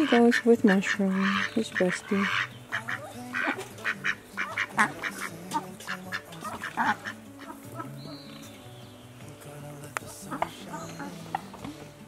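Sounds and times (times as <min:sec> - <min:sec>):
ducks quacking: 0:00.0 - 0:08.7, 0:10.0 - 0:12.0
background music: 0:00.0 - 0:12.0.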